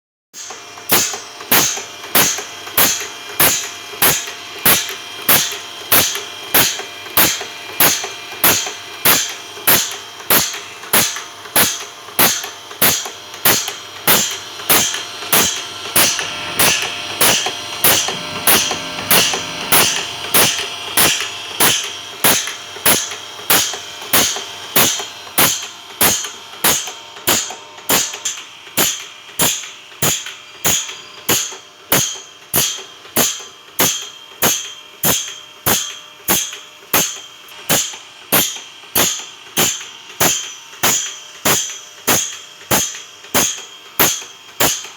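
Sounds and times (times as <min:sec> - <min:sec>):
machine clicking: 0:00.4 - 0:44.9
machine hum: 0:00.4 - 0:44.9.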